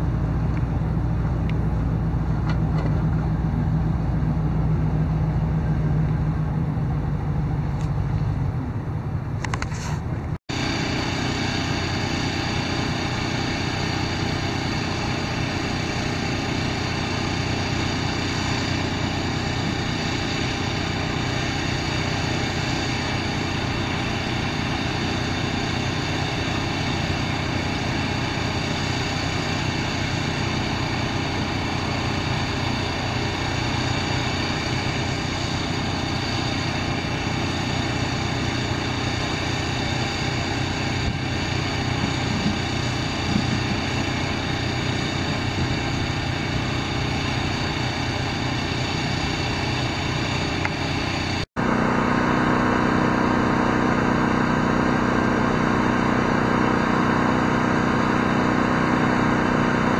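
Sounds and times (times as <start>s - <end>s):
small gasoline engine running: 10.5s - 59.9s.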